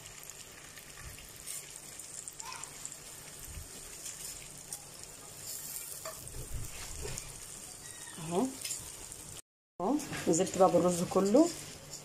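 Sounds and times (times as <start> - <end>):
rice sizzling in fat: 0.0 - 12.0.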